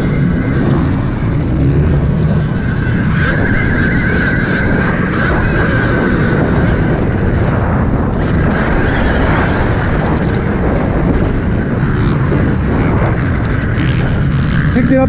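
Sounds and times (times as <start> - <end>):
bike rumbling over track: 0.0 - 15.0
wind buffeting microphone: 0.0 - 15.0.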